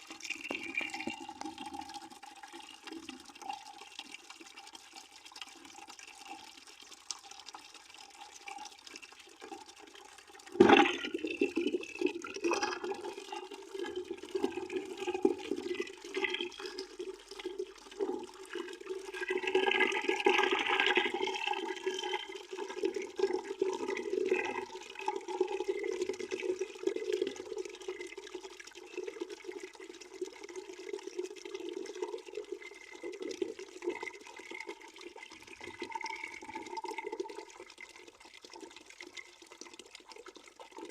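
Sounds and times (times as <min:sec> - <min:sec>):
water running into a bucket: 0:00.0 - 0:40.9.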